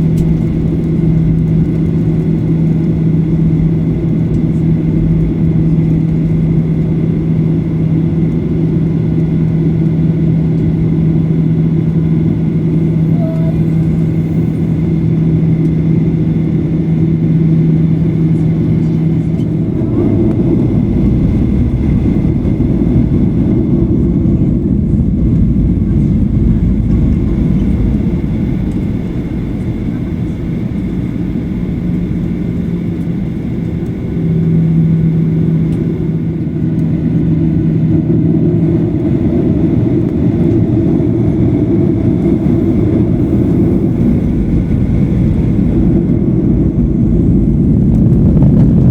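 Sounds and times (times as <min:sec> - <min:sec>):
airplane cabin engine roar: 0:00.0 - 0:48.9
steady hum: 0:00.0 - 0:48.9.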